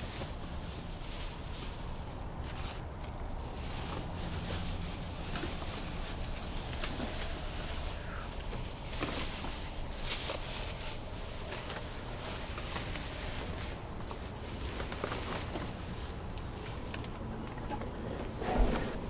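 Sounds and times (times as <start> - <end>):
bags rustling and knocking: 0.0 - 19.0
low background rumble: 0.0 - 19.0.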